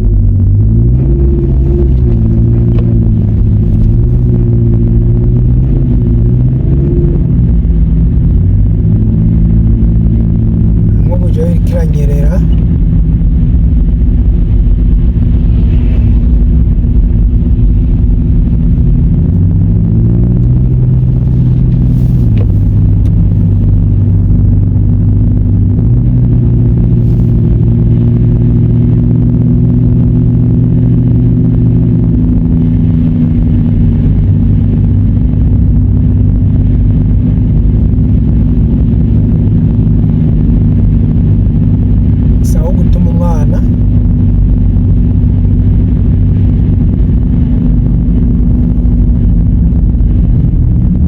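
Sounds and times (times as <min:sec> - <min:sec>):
car engine drone: 0:00.0 - 0:51.0
road noise: 0:00.0 - 0:51.0.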